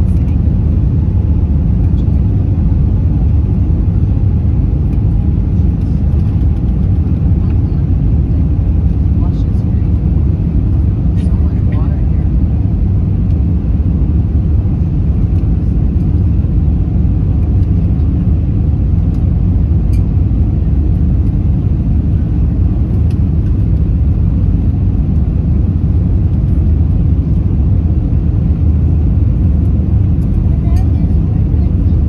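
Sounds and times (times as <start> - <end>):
airplane cabin engine and airflow rumble: 0.0 - 32.0.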